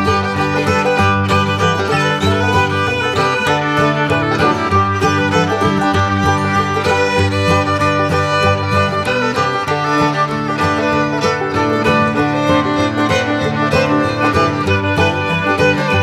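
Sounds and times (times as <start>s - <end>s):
fiddle country music: 0.0s - 16.0s.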